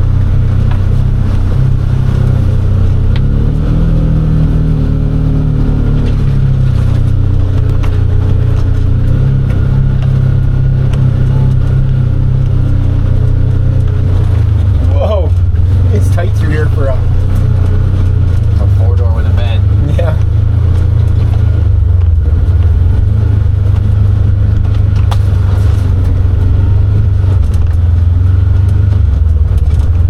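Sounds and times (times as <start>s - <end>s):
utility vehicle engine running: 0.0s - 30.0s.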